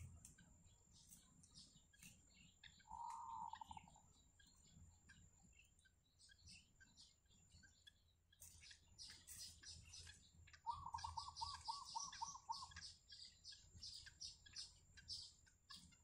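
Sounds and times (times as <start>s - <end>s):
lower evenly spaced bird notes: 0.0s - 16.0s
nestlings begging chirps: 0.0s - 16.0s.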